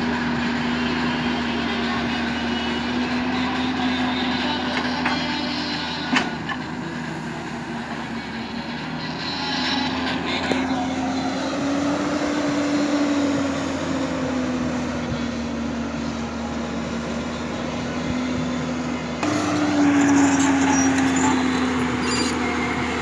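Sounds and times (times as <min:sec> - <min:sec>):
excavator diesel engine working: 0:00.0 - 0:23.0
hydraulic whine: 0:00.0 - 0:23.0.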